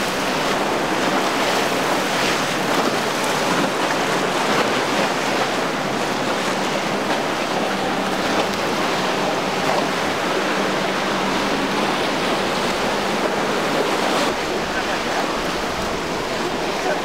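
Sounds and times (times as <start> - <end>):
breaking waves rushing: 0.0 - 17.0
outboard engine drone: 0.0 - 17.0.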